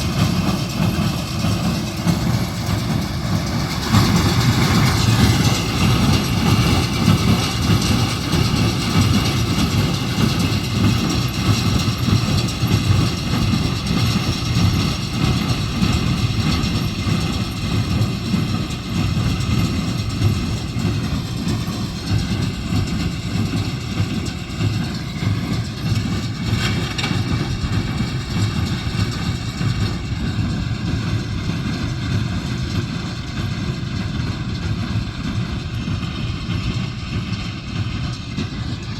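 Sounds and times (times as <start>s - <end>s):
hay baler running: 0.0s - 38.9s
tractor engine running: 0.0s - 38.9s.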